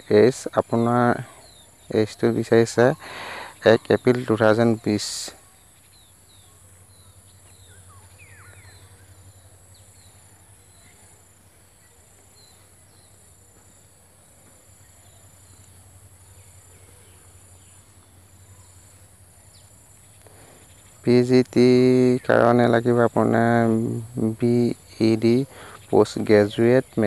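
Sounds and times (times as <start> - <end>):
faint high chirps: 0.0 - 27.0
low hum and hiss: 0.0 - 27.0.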